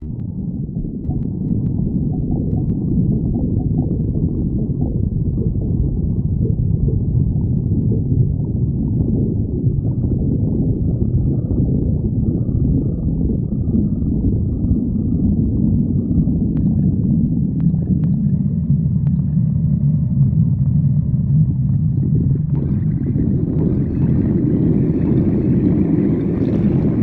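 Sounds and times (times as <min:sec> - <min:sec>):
stomach growling: 0:00.0 - 0:27.0.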